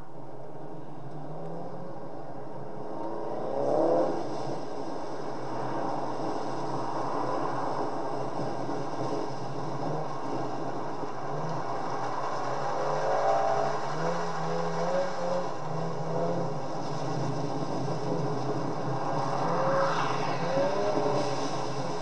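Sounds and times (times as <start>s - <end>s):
wind and road noise: 0.0s - 22.0s
car engine revving: 0.8s - 22.0s.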